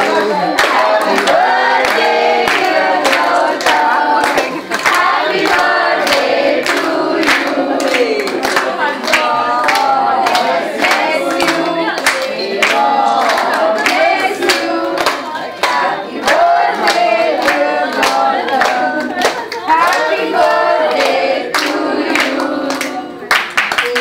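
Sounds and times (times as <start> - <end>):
group of people singing: 0.0 - 23.5
people clapping in a steady beat: 0.0 - 24.0.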